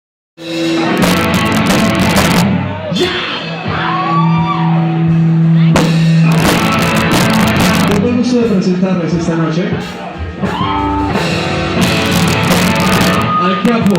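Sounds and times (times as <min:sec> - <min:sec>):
drum and cymbal hits: 0:00.4 - 0:03.8, 0:04.4 - 0:13.9.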